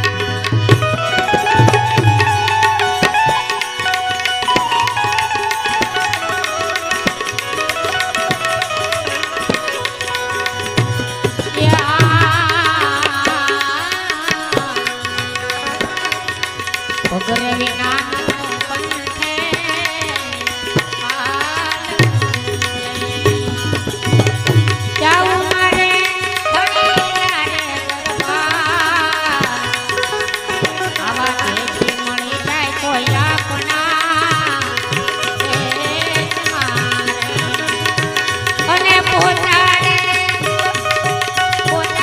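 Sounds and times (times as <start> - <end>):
tabla rhythm: 0.0 - 42.0.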